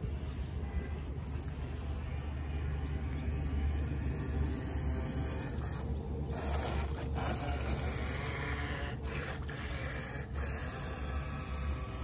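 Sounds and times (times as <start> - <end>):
small electric motor buzzing: 0.0 - 12.0.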